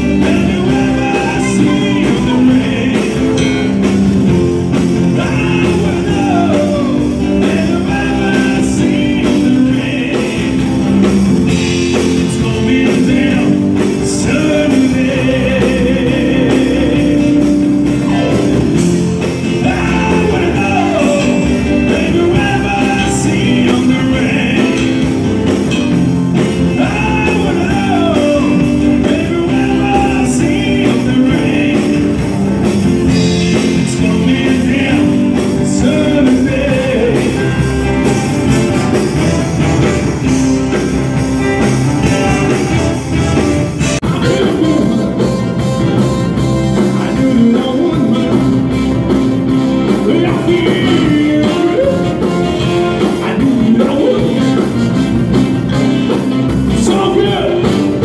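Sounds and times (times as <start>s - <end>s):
live rock band playing: 0.0s - 58.0s
man singing: 0.0s - 58.0s.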